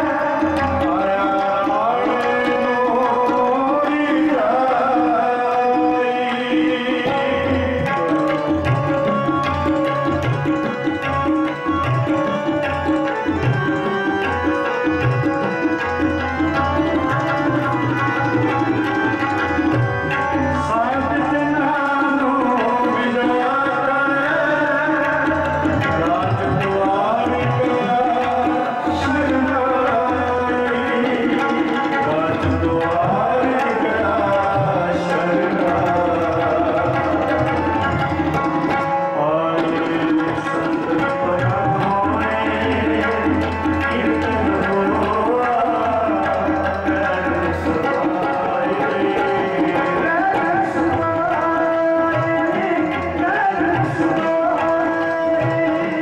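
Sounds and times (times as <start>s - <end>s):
harmonium: 0.0s - 56.0s
person singing devotional melody: 0.0s - 56.0s
tabla playing: 0.0s - 56.0s.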